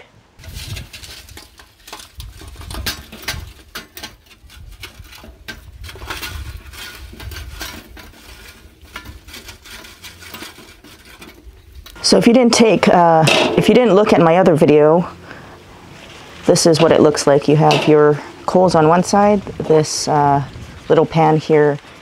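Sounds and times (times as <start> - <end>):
charcoal briquettes clinking and rattling: 0.4 - 21.8.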